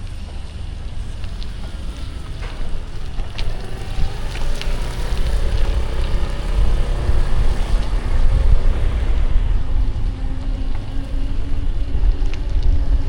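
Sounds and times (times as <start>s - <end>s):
city traffic: 0.0s - 13.0s
wind buffeting microphone: 0.0s - 13.0s.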